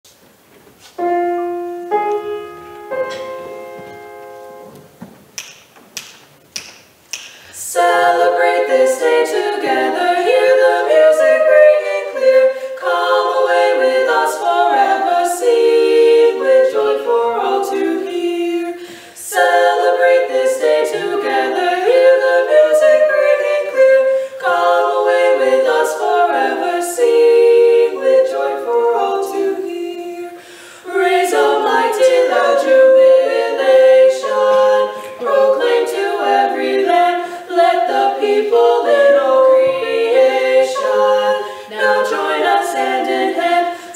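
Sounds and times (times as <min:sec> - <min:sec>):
women singing in harmony: 0:07.5 - 0:43.9.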